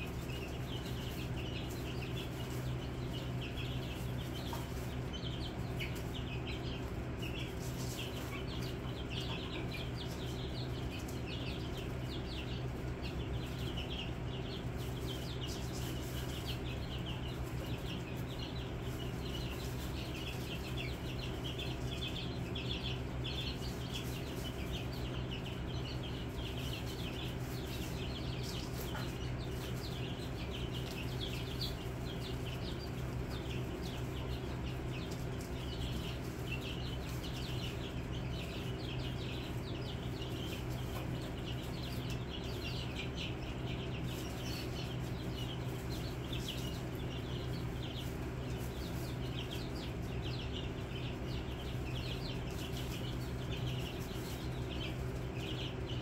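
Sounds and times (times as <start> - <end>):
chicks peeping: 0.0 - 56.0
steady low hum: 0.0 - 56.0.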